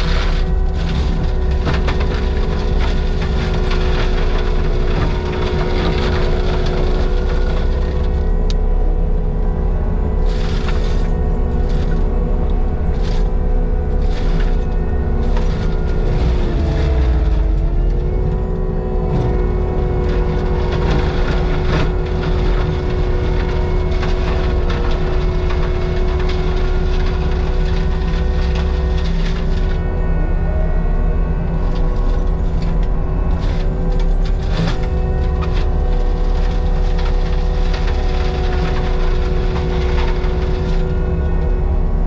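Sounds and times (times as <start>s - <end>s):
diesel machinery rumbling: 0.0s - 42.0s
machinery whine: 0.0s - 42.0s.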